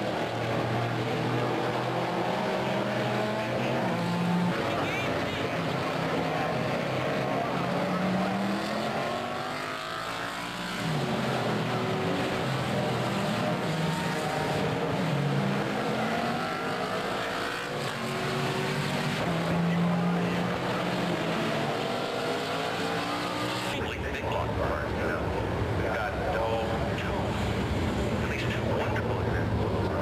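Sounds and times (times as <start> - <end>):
race car engines accelerating: 0.0 - 30.0.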